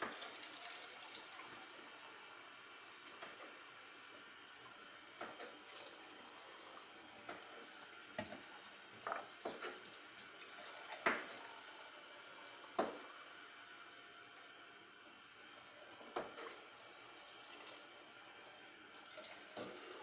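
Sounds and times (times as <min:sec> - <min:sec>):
water running into pot: 0:00.0 - 0:02.0, 0:02.6 - 0:13.4, 0:15.3 - 0:20.0.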